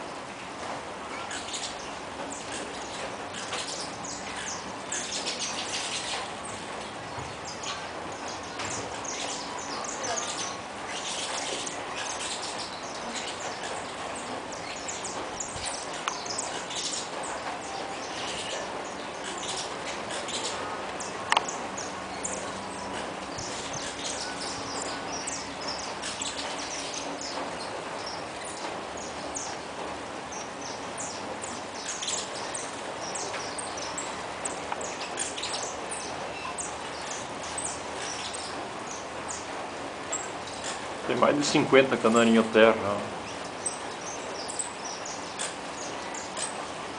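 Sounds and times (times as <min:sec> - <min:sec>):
flock of finches chirping: 0:00.0 - 0:46.9.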